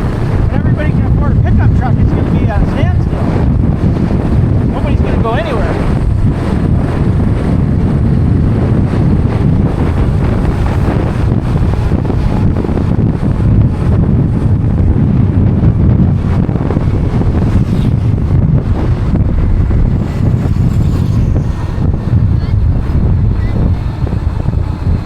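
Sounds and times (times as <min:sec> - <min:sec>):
motorcycle road and engine noise: 0:00.0 - 0:25.0
wind buffeting microphone: 0:00.0 - 0:25.0.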